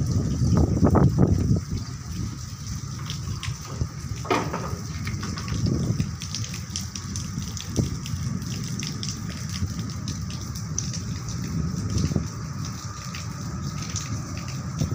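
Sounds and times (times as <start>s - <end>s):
heavy rain pouring: 0.0s - 14.9s
raindrops ticking on surfaces: 0.0s - 14.9s.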